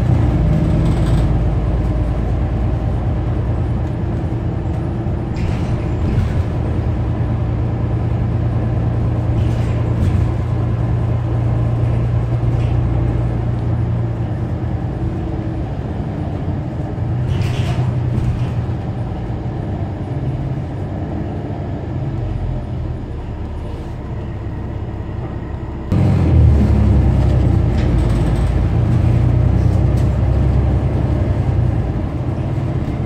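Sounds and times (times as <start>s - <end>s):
bus engine rumble: 0.0s - 33.0s
road noise: 0.0s - 33.0s.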